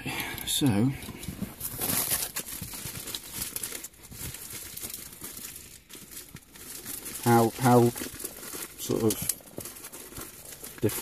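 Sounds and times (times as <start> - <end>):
rustling handling noise: 0.2 - 11.0.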